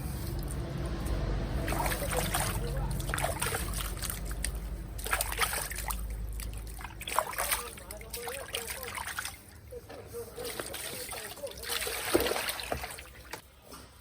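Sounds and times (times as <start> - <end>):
water trickling and splashing: 0.0 - 13.5.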